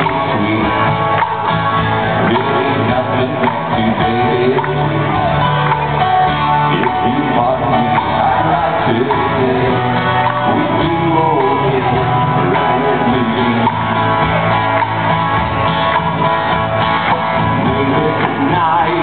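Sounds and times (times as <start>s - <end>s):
person singing: 0.0s - 15.0s, 17.1s - 19.0s
electric guitar: 0.0s - 19.0s
live band playing: 0.0s - 19.0s.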